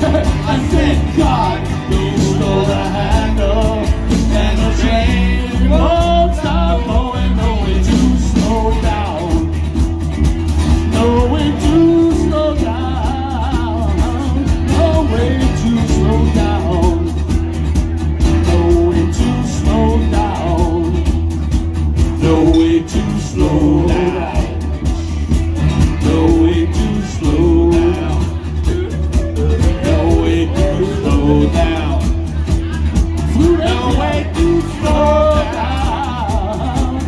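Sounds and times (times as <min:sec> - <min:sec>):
electric bass: 0:00.0 - 0:37.0
strummed acoustic guitar: 0:00.0 - 0:37.0.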